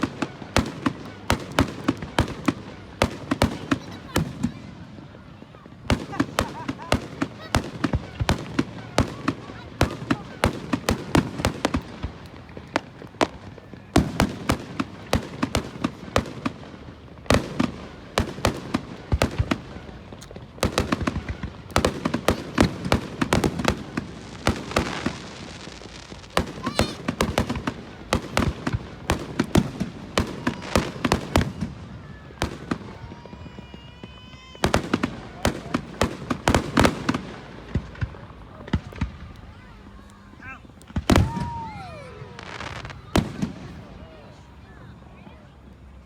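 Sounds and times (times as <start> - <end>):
fireworks bangs and crackling pops: 0.0 - 46.0.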